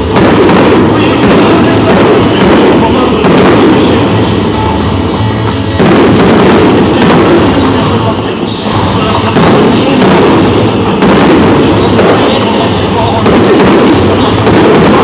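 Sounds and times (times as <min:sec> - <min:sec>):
fireworks shells bursting: 0:00.0 - 0:15.0.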